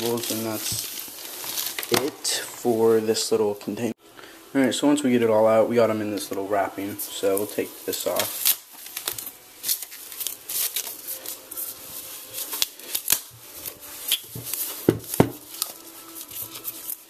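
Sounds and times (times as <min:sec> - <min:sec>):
plastic wrapping rustling: 0:00.0 - 0:03.9, 0:06.0 - 0:17.0.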